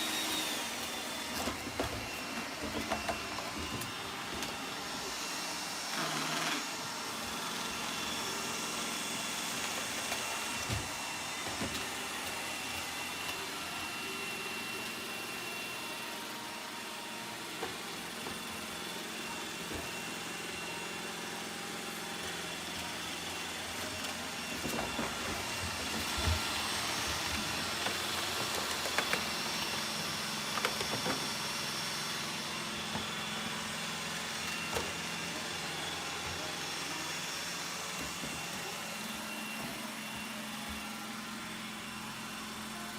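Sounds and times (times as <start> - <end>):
robot vacuum motor whir: 0.0 - 42.8.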